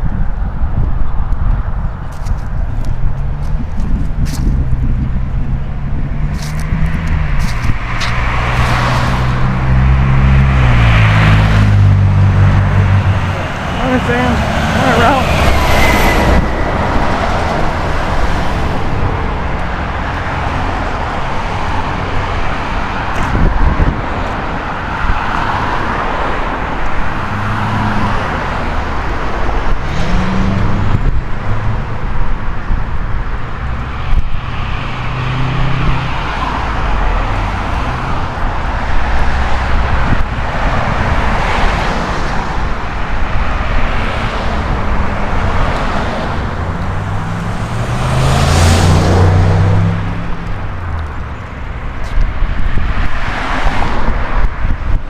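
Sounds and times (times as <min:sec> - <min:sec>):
road traffic rushing: 0:00.0 - 0:55.0.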